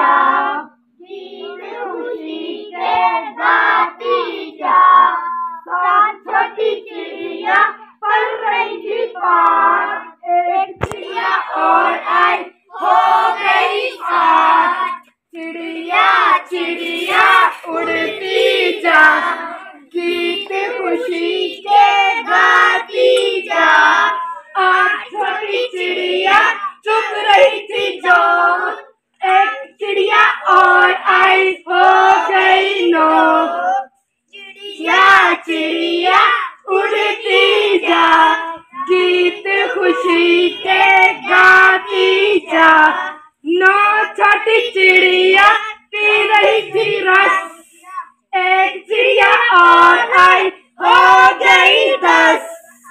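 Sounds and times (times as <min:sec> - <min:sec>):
children singing: 0:00.0 - 0:52.9.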